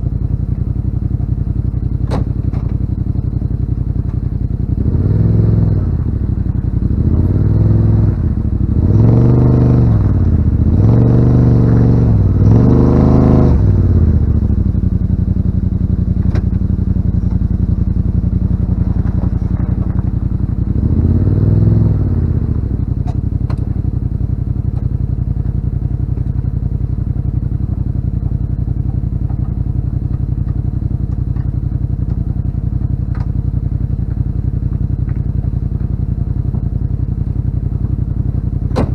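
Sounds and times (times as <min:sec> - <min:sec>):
engine revving and idling: 0:00.0 - 0:38.9.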